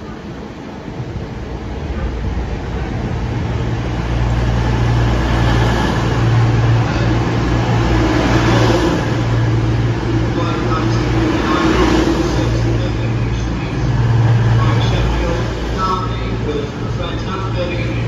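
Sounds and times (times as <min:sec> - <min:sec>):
diesel train engines humming: 0:00.0 - 0:18.0
rush of passing train cars: 0:00.0 - 0:18.0.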